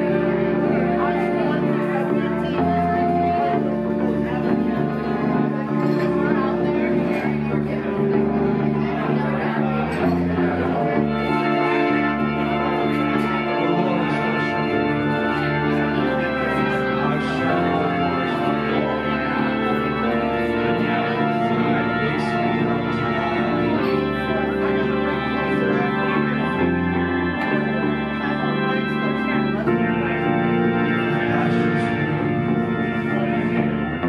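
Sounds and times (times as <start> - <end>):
held organ chords: 0.0 - 34.0.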